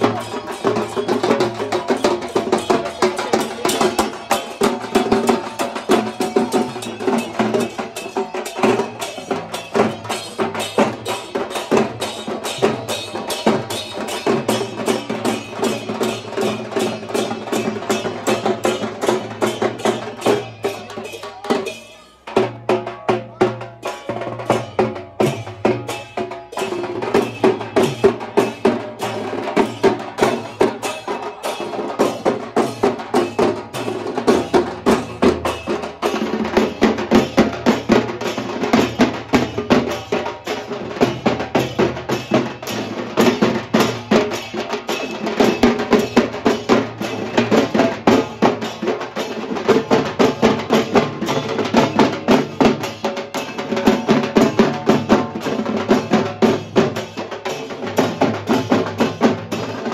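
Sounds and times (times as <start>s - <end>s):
large drums beaten in rhythm: 0.0s - 59.9s.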